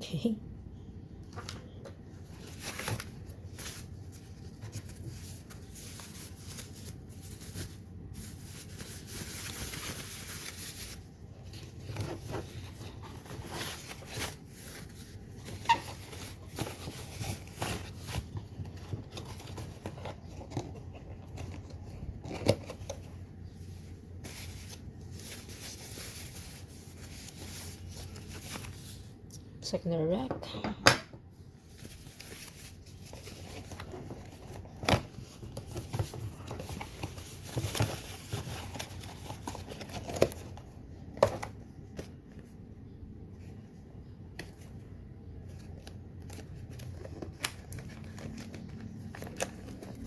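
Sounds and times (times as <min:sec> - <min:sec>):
packaging rustling: 0:01.4 - 0:29.2, 0:31.6 - 0:42.5, 0:45.4 - 0:50.0.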